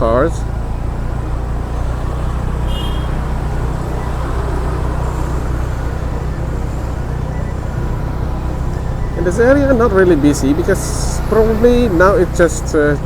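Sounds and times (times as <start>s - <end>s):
car interior low rumble: 0.0s - 13.0s.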